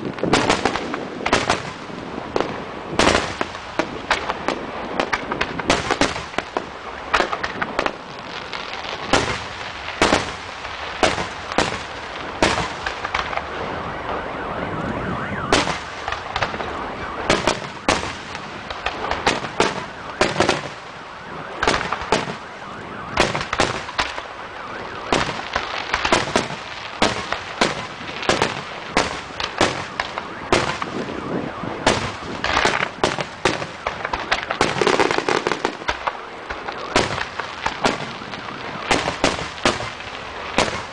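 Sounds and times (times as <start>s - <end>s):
fireworks bangs: 0.0s - 40.9s
fireworks crackling: 0.0s - 40.9s.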